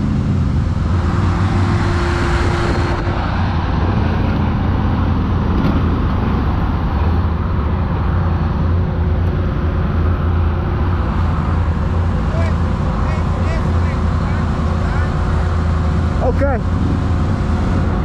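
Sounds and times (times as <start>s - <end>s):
atv engine rumbling: 0.0s - 18.0s.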